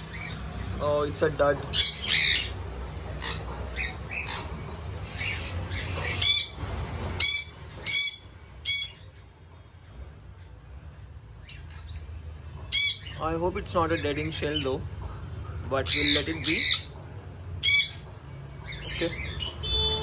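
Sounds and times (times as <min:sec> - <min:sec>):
parrots squawking: 0:00.0 - 0:09.3, 0:11.4 - 0:14.8, 0:15.8 - 0:20.0.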